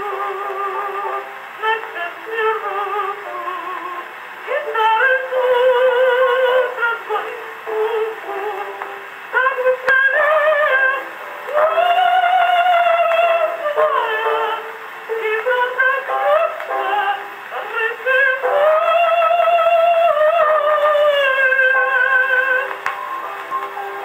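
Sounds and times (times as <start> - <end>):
gramophone woman singing: 0.0 - 24.0.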